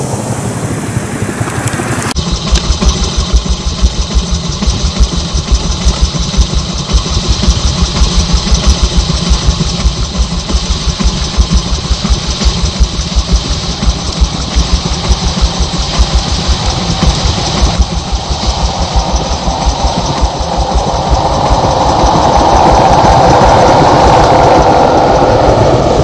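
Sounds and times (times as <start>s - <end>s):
vehicle engine idling: 0.0s - 24.1s.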